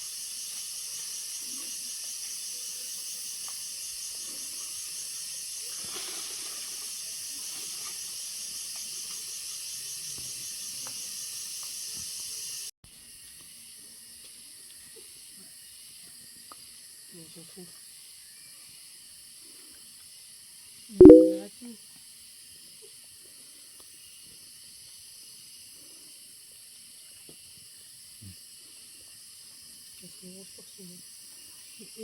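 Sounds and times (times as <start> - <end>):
insect chorus drone: 0.0 - 12.6, 13.6 - 20.9, 21.8 - 32.0.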